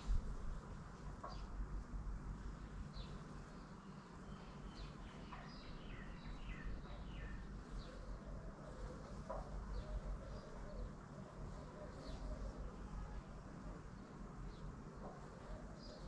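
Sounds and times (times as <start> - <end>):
low steady rumble: 0.0 - 16.0
small birds chirping: 0.1 - 1.6, 2.4 - 16.0.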